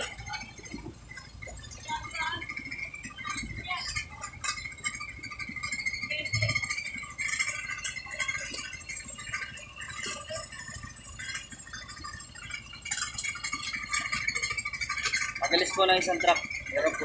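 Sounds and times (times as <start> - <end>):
low engine rumble: 0.0 - 17.0
machinery high whine: 0.0 - 17.0
rattling clatter: 0.0 - 17.0.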